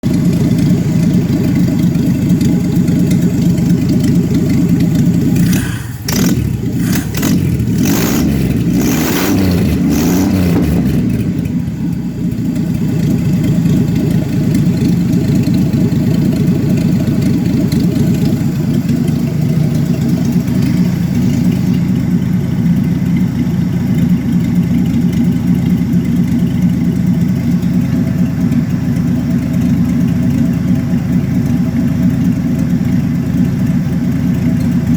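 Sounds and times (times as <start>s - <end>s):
car engine idling roughly: 0.0s - 34.9s.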